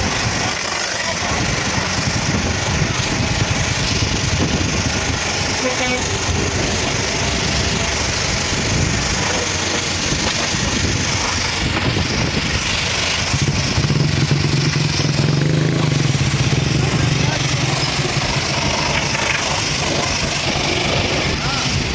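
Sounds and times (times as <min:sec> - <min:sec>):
engine running: 0:00.0 - 0:21.9
high-pressure water spray hiss: 0:00.0 - 0:21.9
low hum: 0:00.0 - 0:21.9.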